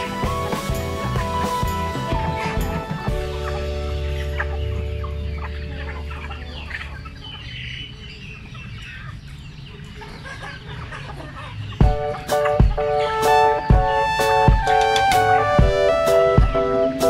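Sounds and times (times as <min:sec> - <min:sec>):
chickens clucking: 0:00.0 - 0:17.0
chicks peeping: 0:00.0 - 0:17.0.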